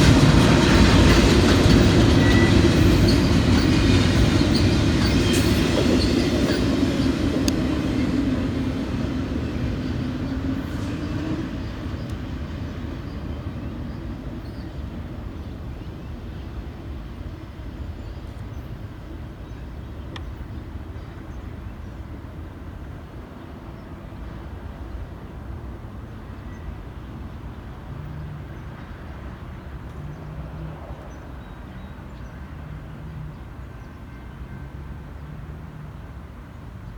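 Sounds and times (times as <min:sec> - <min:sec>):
freight train rumbling past: 0:00.0 - 0:36.9.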